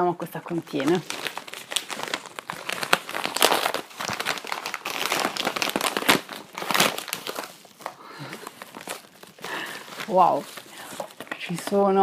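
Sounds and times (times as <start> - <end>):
paper envelope crinkling: 0.4 - 12.0.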